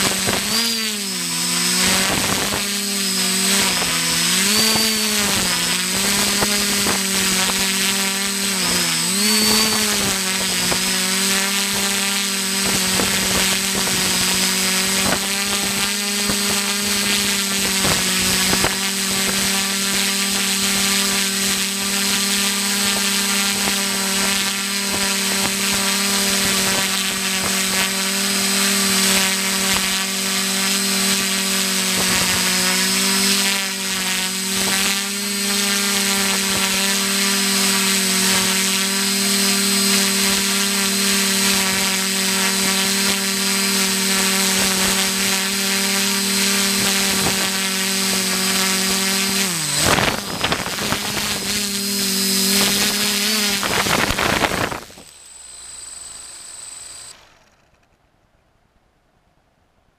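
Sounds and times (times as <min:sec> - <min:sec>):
drone propellers humming: 0:00.0 - 0:57.9.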